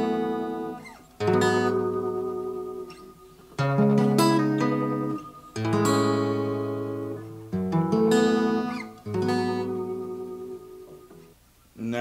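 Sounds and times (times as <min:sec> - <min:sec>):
acoustic guitar chords with tremolo: 0:00.0 - 0:11.4.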